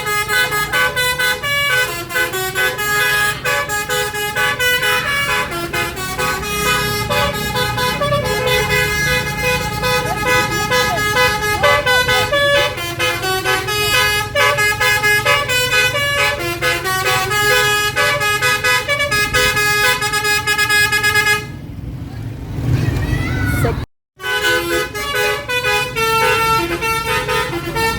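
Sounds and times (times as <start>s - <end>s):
bus musical horn tooting a tune: 0.0s - 21.6s, 24.2s - 27.9s
low engine rumble: 0.0s - 23.8s.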